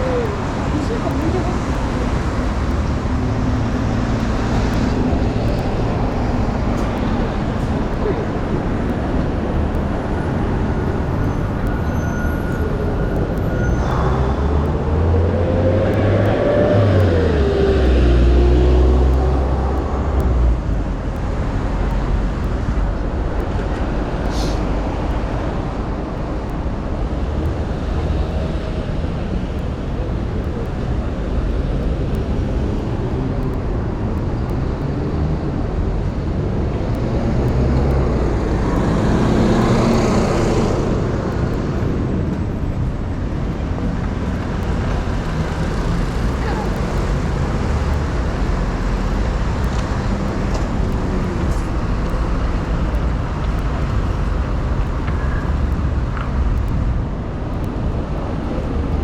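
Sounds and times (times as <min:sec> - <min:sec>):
city noise hum: 0:00.0 - 0:59.0.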